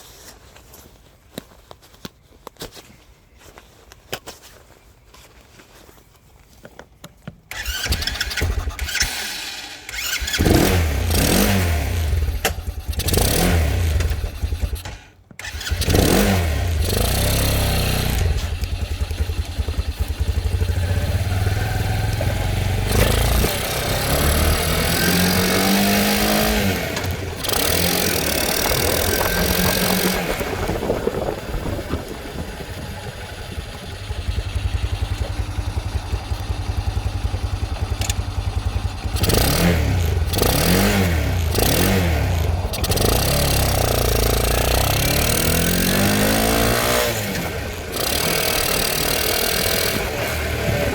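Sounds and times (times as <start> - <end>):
motorcycle engine starting and revving: 7.5 - 50.9.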